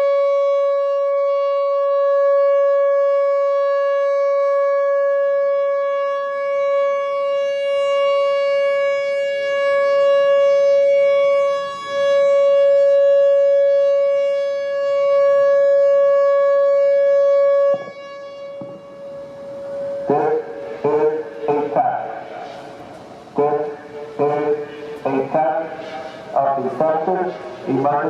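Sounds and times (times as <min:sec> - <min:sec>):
electronic warning siren: 0:00.0 - 0:28.0.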